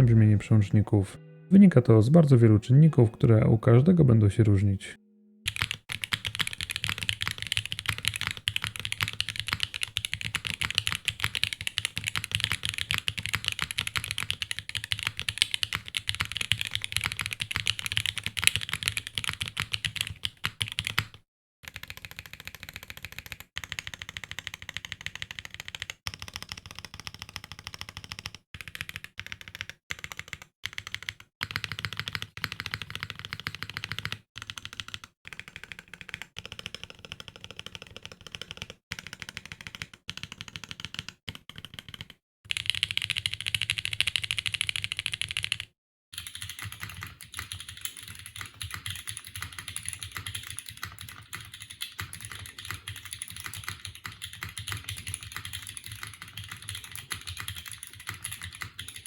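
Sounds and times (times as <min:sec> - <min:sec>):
fast typing on mechanical keyboard: 0:05.5 - 0:59.0.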